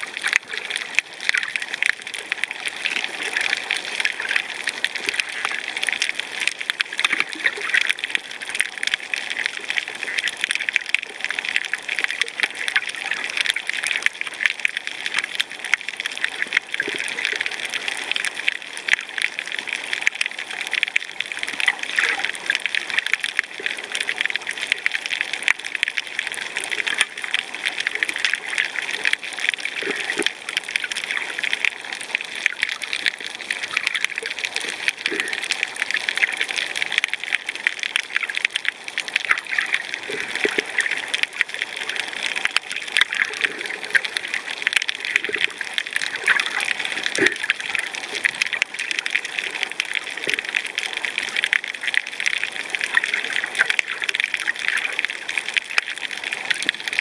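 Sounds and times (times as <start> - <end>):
snapping shrimp crackle underwater: 0.0 - 57.0.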